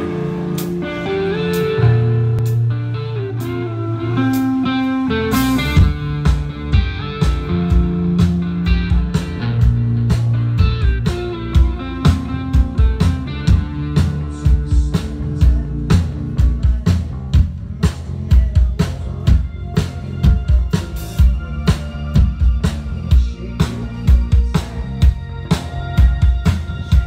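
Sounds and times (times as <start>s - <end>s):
bass notes: 0.0s - 27.0s
drum kit beat: 0.0s - 27.0s
electric guitar: 0.0s - 27.0s.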